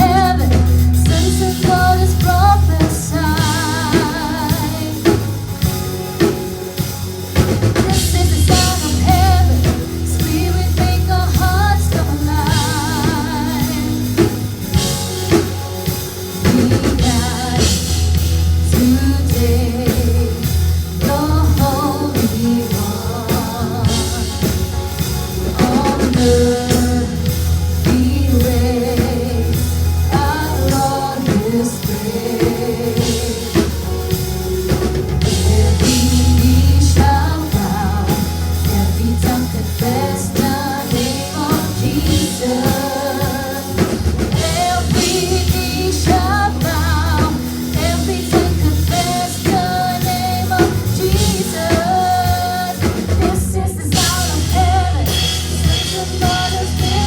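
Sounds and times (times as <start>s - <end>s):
person singing: 0.0s - 6.4s, 7.4s - 57.0s
worship band song: 0.0s - 57.0s.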